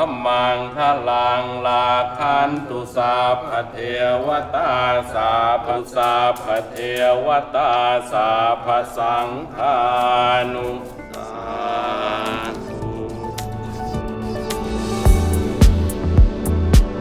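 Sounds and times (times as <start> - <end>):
monks chanting in unison: 0.0 - 14.2.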